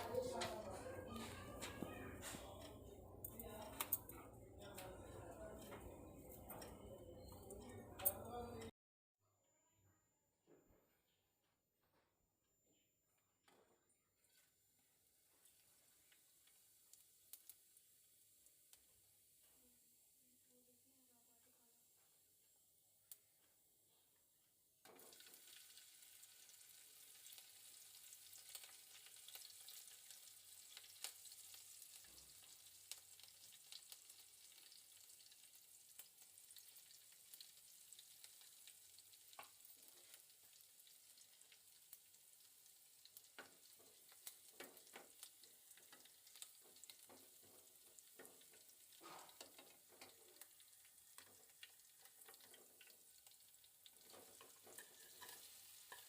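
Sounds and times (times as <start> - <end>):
food sizzling in a pan: 0.0 - 7.7, 14.2 - 56.0.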